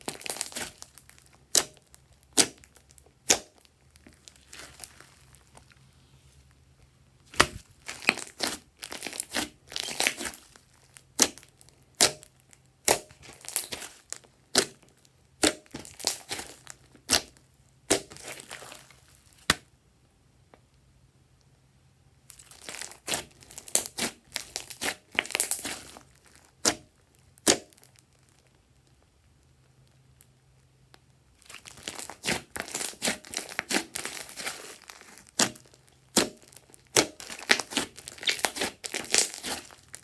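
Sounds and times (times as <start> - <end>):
slime popping and crackling: 0.0 - 5.8, 7.3 - 19.7, 22.3 - 29.0, 30.9 - 40.0.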